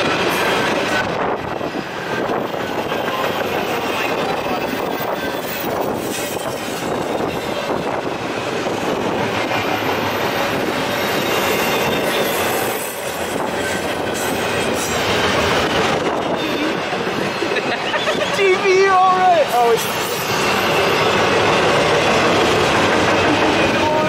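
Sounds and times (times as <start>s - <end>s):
steel wheels on rail: 0.0s - 24.0s.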